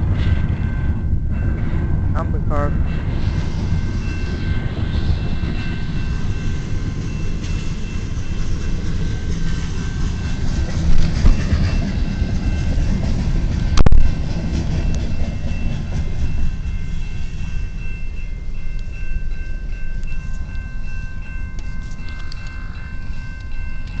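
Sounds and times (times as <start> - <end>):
freight train cars rumbling past: 0.0 - 24.0
high whine: 0.0 - 24.0.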